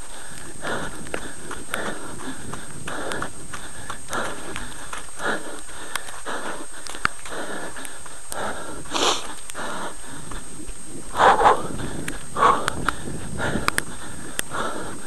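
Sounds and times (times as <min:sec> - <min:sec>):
runner breathing rhythmically: 0:00.0 - 0:15.0
sharp clicks of footfalls: 0:00.0 - 0:15.0.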